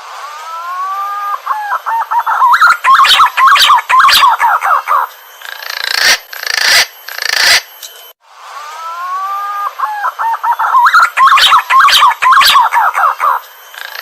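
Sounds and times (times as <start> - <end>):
harsh noisy bird bursts: 0.2 - 7.7, 8.5 - 14.0
pigeon warbling whistled call: 0.4 - 7.6, 8.6 - 14.0.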